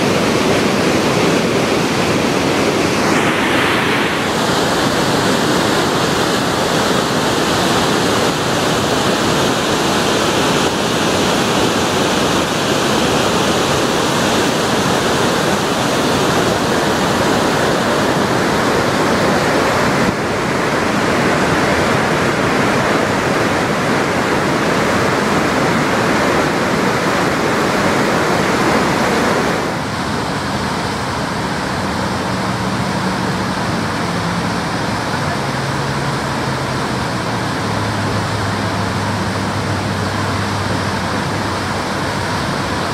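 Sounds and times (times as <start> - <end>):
water rushing over spillway: 0.0 - 42.9.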